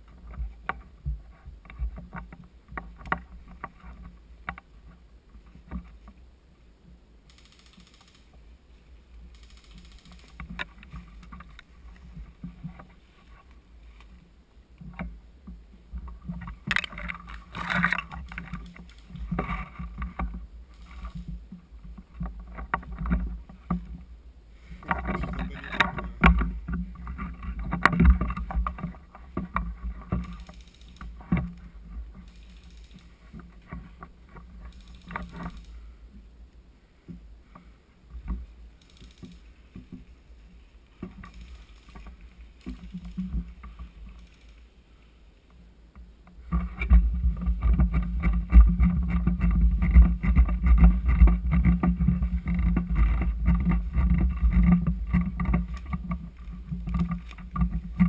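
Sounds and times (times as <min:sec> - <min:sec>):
rustling noise: 0:00.0 - 0:58.0.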